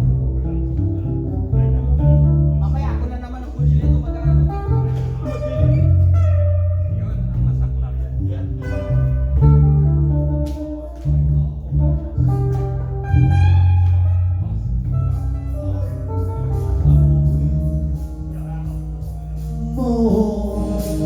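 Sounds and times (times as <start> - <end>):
deep bass notes: 0.0 - 21.0
guitar chords: 0.0 - 21.0.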